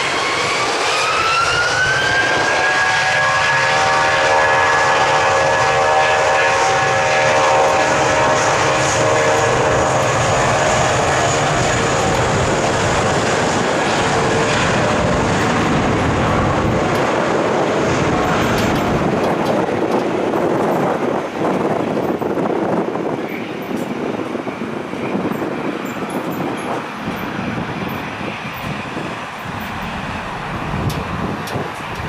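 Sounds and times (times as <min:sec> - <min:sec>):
jet engine roar: 0:00.0 - 0:32.0
jet engine whining tones: 0:00.0 - 0:32.0.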